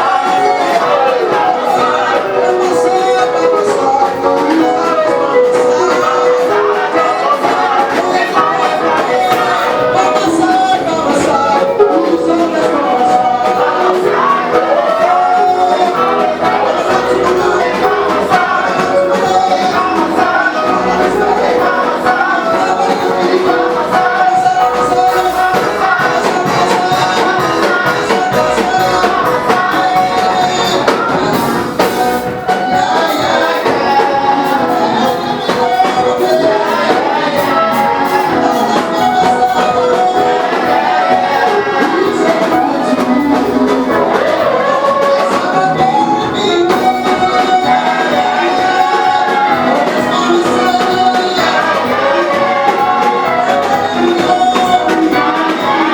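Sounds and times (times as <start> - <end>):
band playing: 0.0 - 55.9
voices singing gospel: 0.0 - 55.9.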